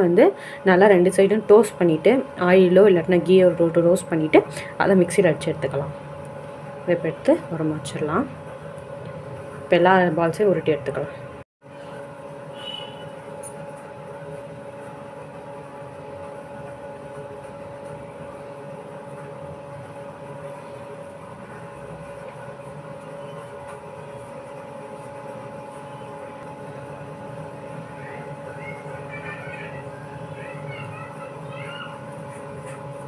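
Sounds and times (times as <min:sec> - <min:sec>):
machine hum with held tones: 0:00.0 - 0:33.0.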